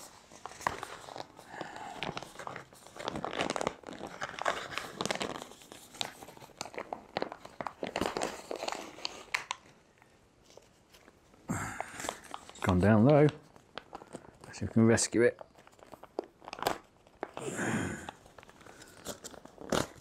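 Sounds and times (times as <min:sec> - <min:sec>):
pouch tearing open: 0:00.0 - 0:09.8, 0:11.5 - 0:14.6, 0:15.4 - 0:20.0
pouch crinkling: 0:00.0 - 0:20.0.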